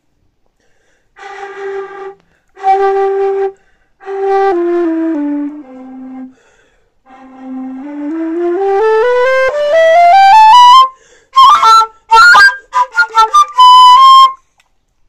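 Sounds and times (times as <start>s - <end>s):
flute playing notes: 1.2s - 6.4s, 7.1s - 14.4s.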